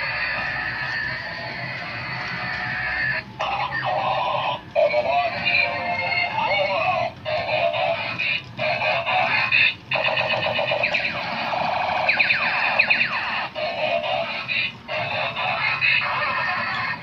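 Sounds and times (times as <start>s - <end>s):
tinny electronic toy music: 0.0s - 17.0s.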